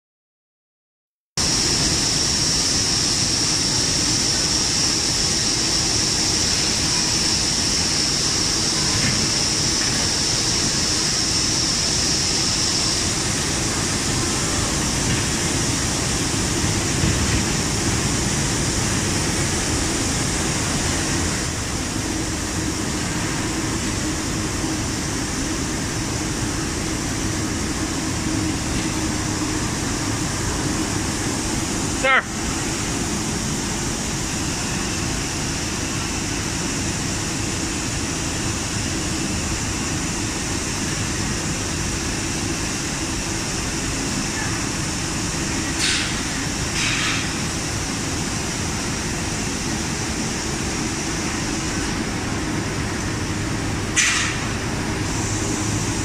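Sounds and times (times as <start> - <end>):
machine rumble with high hiss: 1.4 - 56.0.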